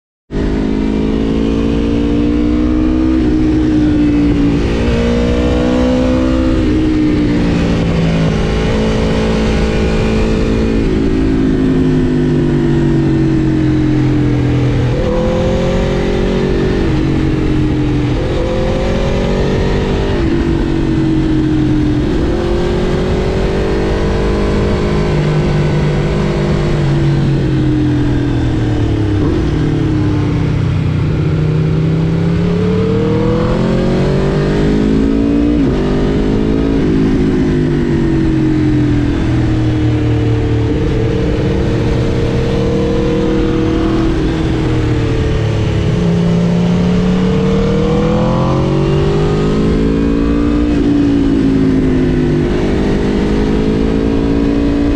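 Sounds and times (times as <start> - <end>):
motorcycle engine accelerating: 0.3 - 54.9.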